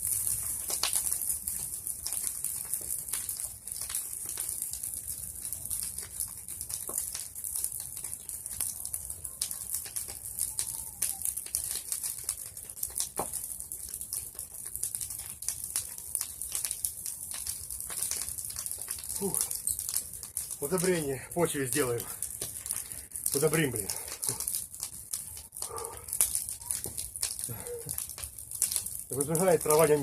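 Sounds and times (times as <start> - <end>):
bonfire crackling and hissing: 0.0 - 30.0.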